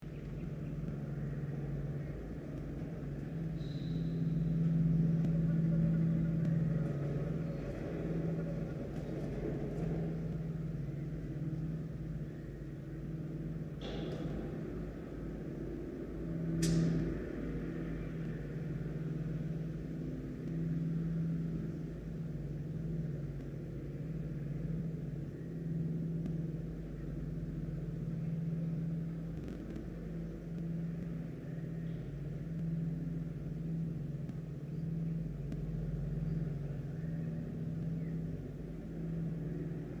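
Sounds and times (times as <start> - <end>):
low mechanical hum and rumble: 0.0 - 40.0.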